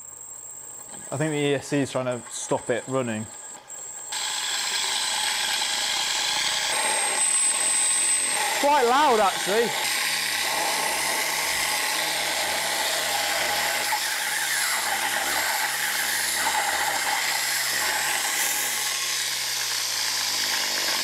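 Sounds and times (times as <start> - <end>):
motor-driven rotors whirring: 2.1 - 21.0.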